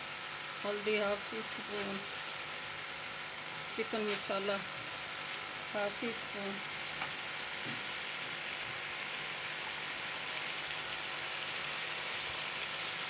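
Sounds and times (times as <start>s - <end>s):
frying in hot oil sizzle: 0.0s - 13.0s.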